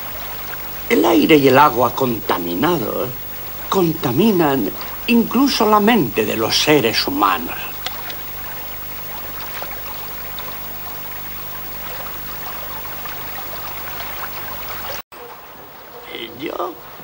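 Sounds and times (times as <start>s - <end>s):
faint low hum: 0.0s - 17.0s
stream water flowing: 0.0s - 17.0s.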